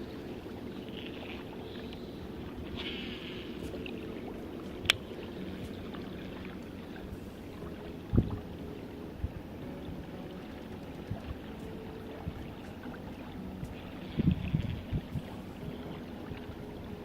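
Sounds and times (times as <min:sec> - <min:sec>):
steady low rumble: 0:00.0 - 0:17.0
wind buffeting microphone: 0:01.4 - 0:17.0.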